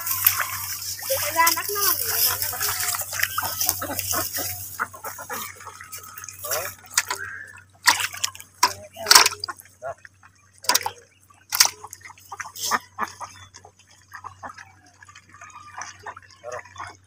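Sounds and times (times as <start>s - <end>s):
water dripping: 0.0s - 17.0s.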